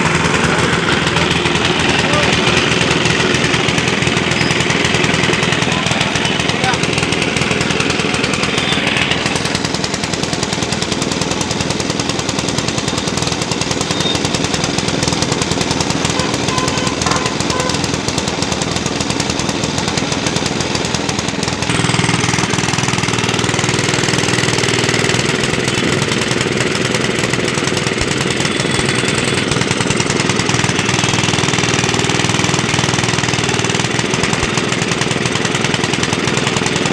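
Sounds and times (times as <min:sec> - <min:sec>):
petrol engine running crusher: 0:00.0 - 0:36.9.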